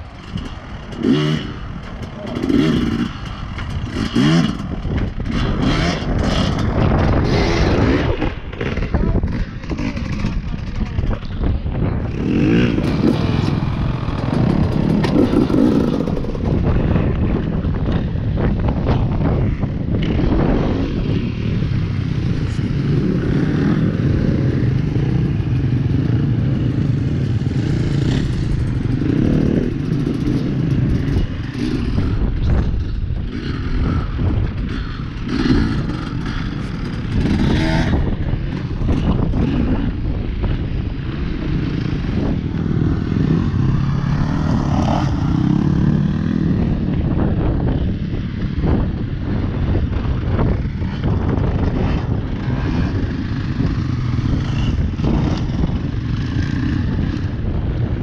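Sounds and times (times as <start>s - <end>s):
dirt bike engine at low revs: 0.0s - 58.0s.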